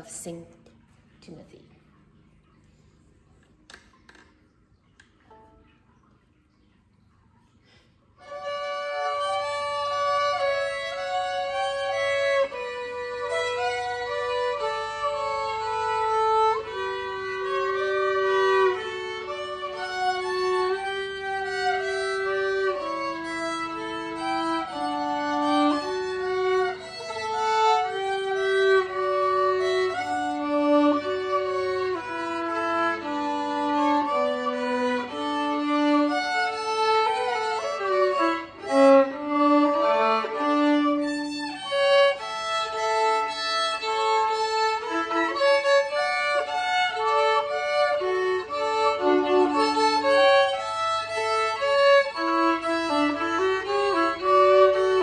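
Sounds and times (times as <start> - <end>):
violin duet march: 8.2 - 55.0.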